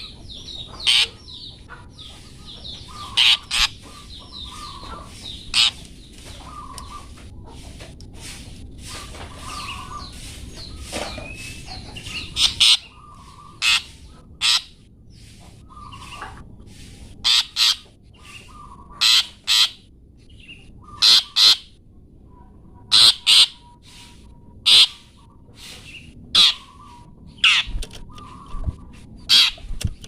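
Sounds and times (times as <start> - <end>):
bird chattering: 0.0 - 7.2, 8.9 - 14.9, 17.2 - 21.8, 22.8 - 28.7, 29.3 - 29.6
loud harsh bird calls: 0.0 - 7.7, 8.8 - 21.8, 22.8 - 29.6.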